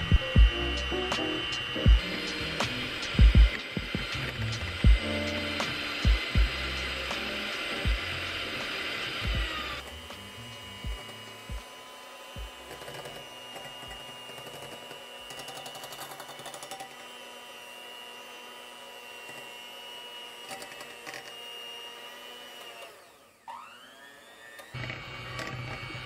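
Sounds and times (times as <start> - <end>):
electric hand mixer whirring: 0.0 - 26.0.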